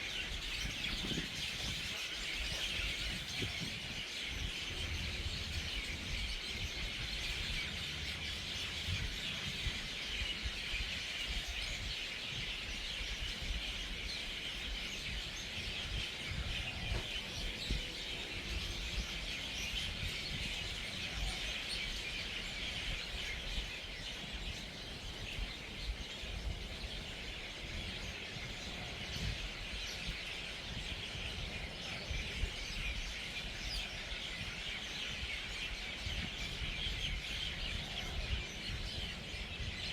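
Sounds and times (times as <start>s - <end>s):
flock of birds chattering: 0.0s - 39.9s.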